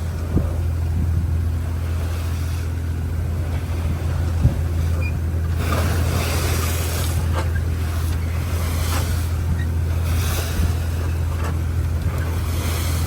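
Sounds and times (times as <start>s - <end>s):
boat engine droning: 0.0s - 13.0s
wind and sea noise: 0.0s - 13.0s.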